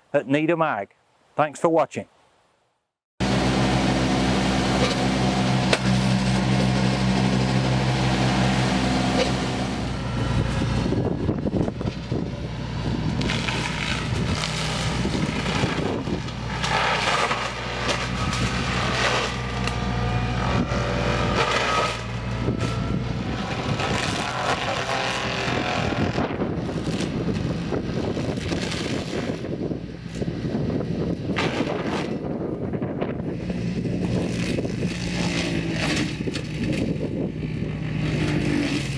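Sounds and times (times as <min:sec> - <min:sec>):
diesel engine drone: 0:03.2 - 0:38.9
mulcher shredding brush: 0:03.2 - 0:38.9.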